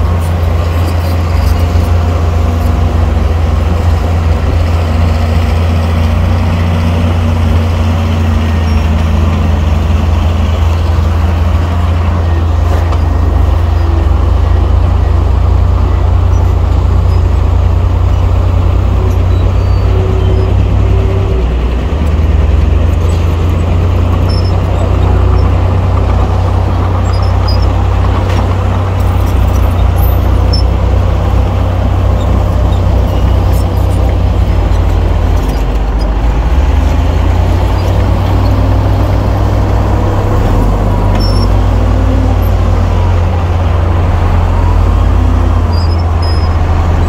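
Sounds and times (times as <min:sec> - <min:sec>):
diesel machinery engine rumble: 0:00.0 - 0:47.0.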